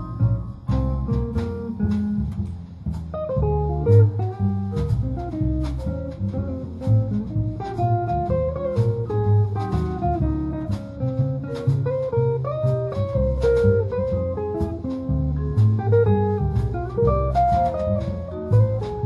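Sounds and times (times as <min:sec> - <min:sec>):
guitar melody: 0:00.0 - 0:19.0
rhythm accompaniment: 0:00.0 - 0:19.0
walking bass: 0:00.0 - 0:19.0.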